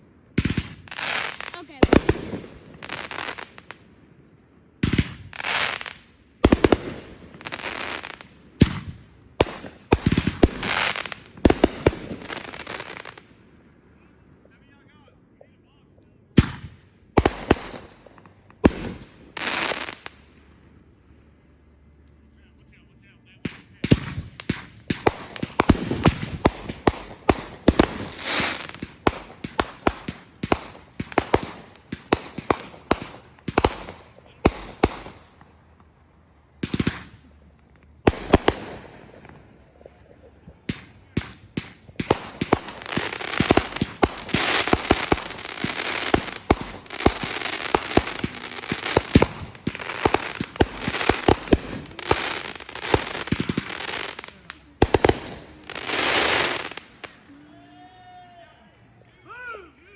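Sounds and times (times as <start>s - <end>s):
fireworks bangs and crackling: 0.3s - 3.8s, 4.8s - 13.3s, 16.3s - 20.4s, 23.3s - 57.2s.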